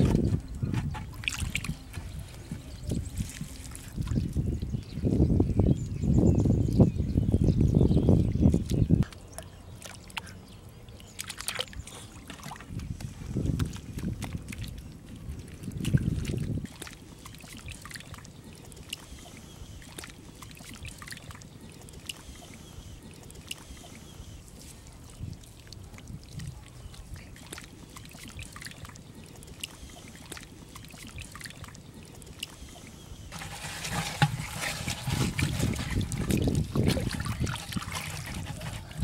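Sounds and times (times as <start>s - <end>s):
water sloshing: 0.0s - 4.8s, 8.5s - 39.0s
wet mud squelches: 0.0s - 4.9s, 8.4s - 39.0s
water splashing and trickling: 0.0s - 39.0s.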